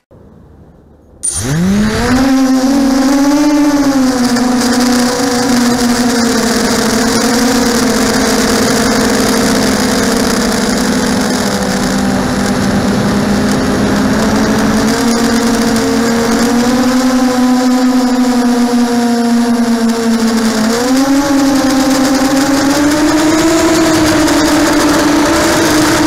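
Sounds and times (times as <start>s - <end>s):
quadcopter motors whining: 1.2s - 26.0s.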